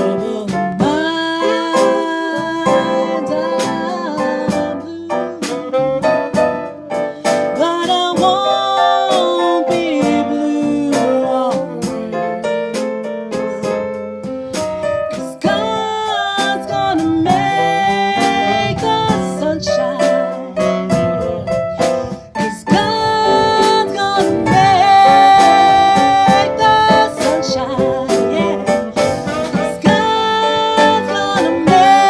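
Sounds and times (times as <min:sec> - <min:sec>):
slow blues piano: 0:00.0 - 0:32.0.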